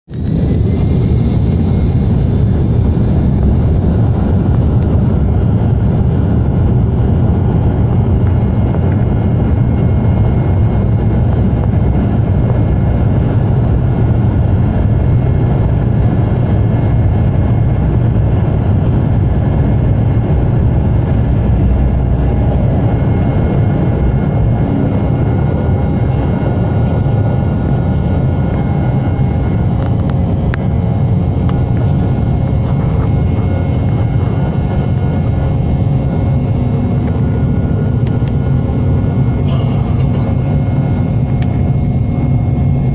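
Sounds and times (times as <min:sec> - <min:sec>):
jet engines at takeoff: 0:00.1 - 0:42.9.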